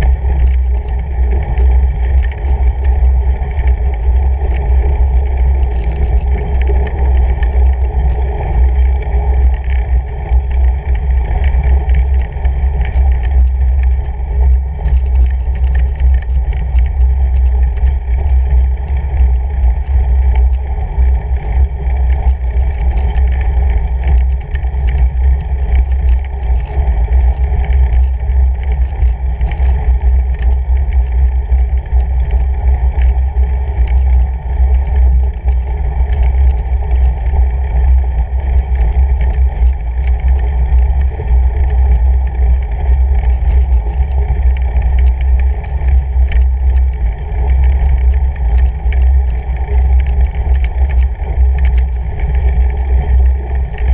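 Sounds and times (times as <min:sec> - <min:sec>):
bike tyres rolling over snow: 0:00.0 - 0:53.9
small clicks and rattles: 0:00.0 - 0:53.9.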